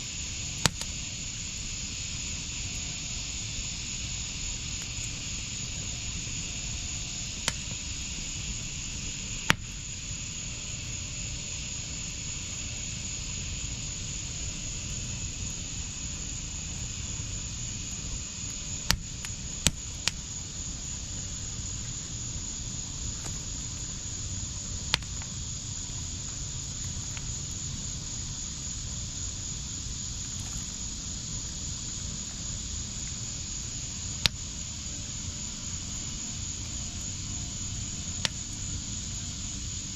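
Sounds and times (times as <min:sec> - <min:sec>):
wood fire hissing and popping: 0:00.0 - 0:39.9.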